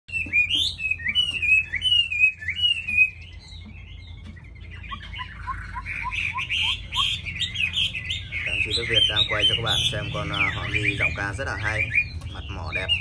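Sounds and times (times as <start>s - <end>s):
bird singing whistled phrases: 0.1s - 13.0s
bird warbling: 0.1s - 13.0s.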